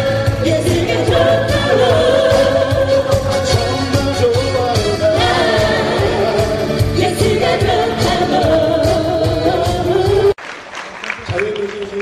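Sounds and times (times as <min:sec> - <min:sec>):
pop song with singing: 0:00.0 - 0:10.4.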